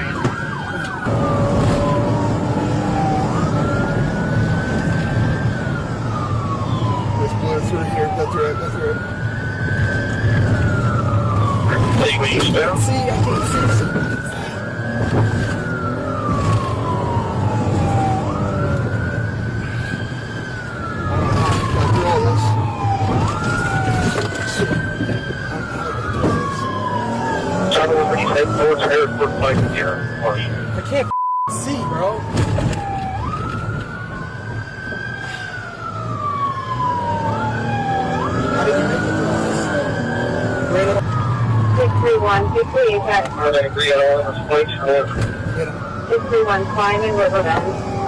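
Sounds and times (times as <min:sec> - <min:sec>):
engine and road drone: 0:00.0 - 0:48.0
police siren wailing: 0:00.0 - 0:48.0.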